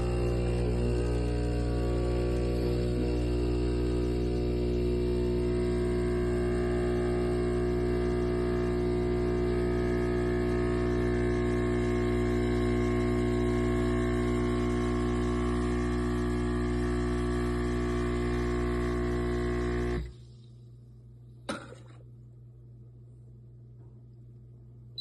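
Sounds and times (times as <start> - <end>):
espresso machine pump buzzing: 0.0 - 20.2.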